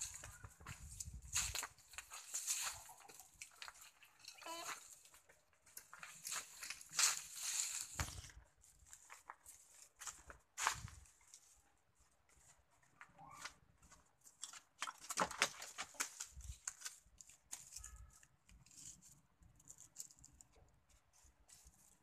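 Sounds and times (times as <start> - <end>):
footsteps on dry leaves and dirt: 0.0 - 20.3, 20.9 - 22.0.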